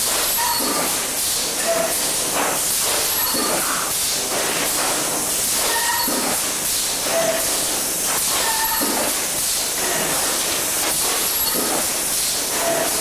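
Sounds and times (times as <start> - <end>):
machine air hiss: 0.0 - 13.0.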